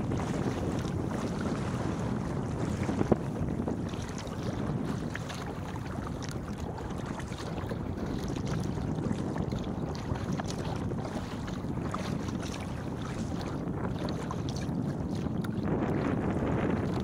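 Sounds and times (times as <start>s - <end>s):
water splashing against kayak hull: 0.0s - 17.0s
wind buffeting microphone: 0.0s - 17.0s.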